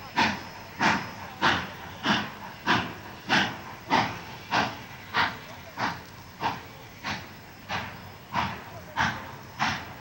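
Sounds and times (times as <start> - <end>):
steam locomotive chuffing: 0.0 - 10.0.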